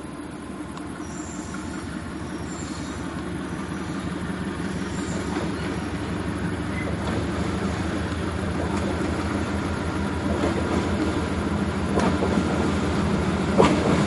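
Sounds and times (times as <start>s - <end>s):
locomotive diesel engine drone: 0.0s - 14.0s.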